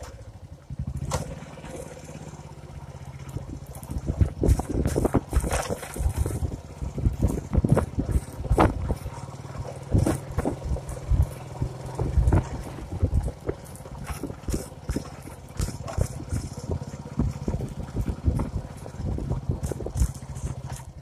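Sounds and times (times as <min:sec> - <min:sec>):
motorcycle engine running: 0:00.0 - 0:21.0
thumps and rattles: 0:03.3 - 0:21.0.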